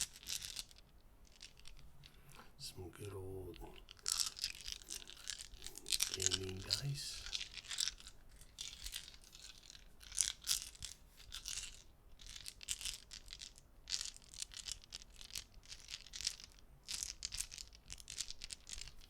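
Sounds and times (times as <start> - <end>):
dice clicking and clattering: 0.0 - 1.8, 3.0 - 19.0.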